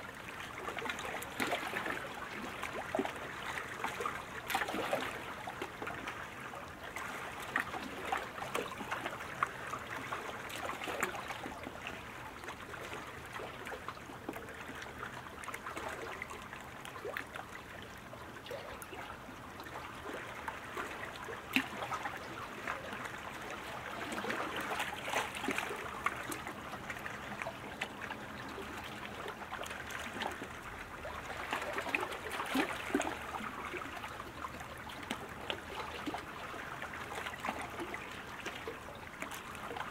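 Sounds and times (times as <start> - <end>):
water splashing from paddles: 0.0 - 39.9.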